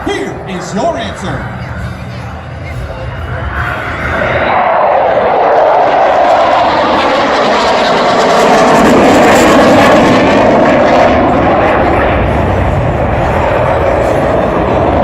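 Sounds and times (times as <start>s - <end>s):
deep rumble: 0.0s - 15.0s
jet engines passing: 0.0s - 15.0s.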